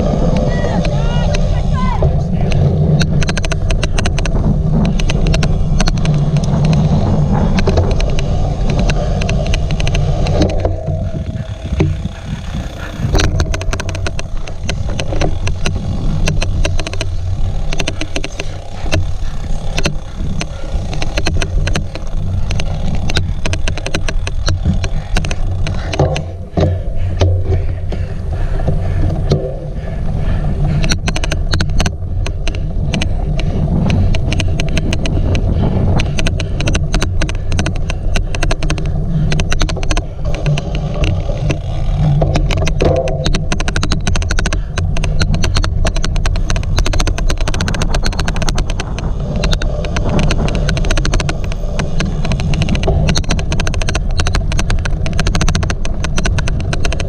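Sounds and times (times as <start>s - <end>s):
sharp bike clicking: 0.0s - 57.0s
tyres rumbling on rough ground: 0.0s - 57.0s.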